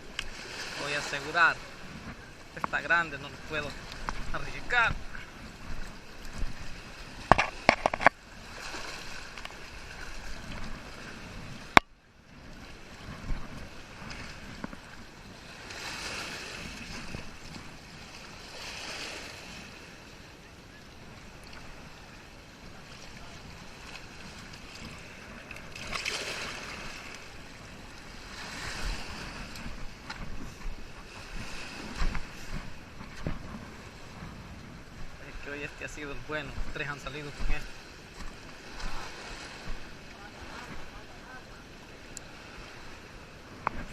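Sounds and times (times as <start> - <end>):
water sloshing: 0.0 - 19.8, 21.3 - 43.9.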